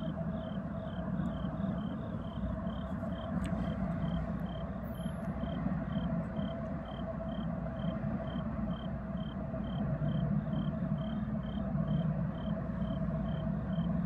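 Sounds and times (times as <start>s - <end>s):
crickets chirping: 0.0s - 14.0s
diesel locomotive rumble: 0.0s - 14.0s.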